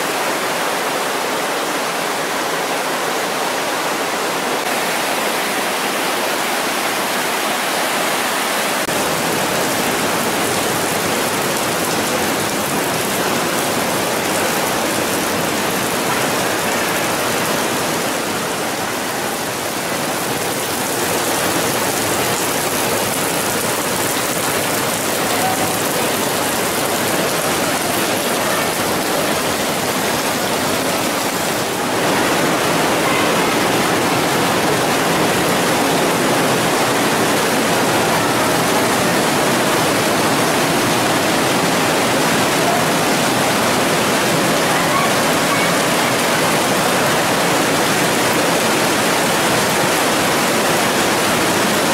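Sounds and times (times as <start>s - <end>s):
water rushing through gorge: 0.0s - 51.9s.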